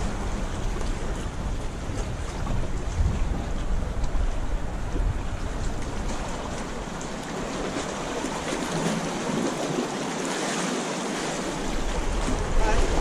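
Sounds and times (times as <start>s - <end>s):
wind rumbling on microphone: 0.0s - 10.4s, 11.2s - 13.0s
sea water washing against rocks: 0.0s - 13.0s.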